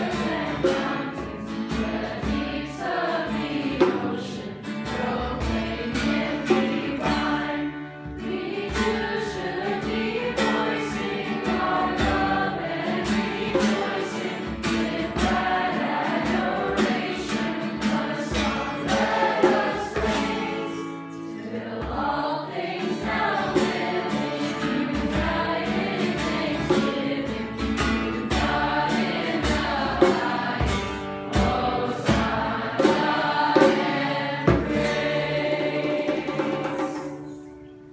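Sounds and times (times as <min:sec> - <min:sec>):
group singing a hymn: 0:00.0 - 0:37.4
strummed guitar: 0:00.0 - 0:37.9.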